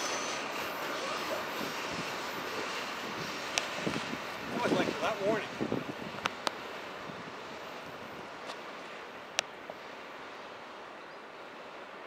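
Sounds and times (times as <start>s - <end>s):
freight train rushing: 0.0s - 10.9s.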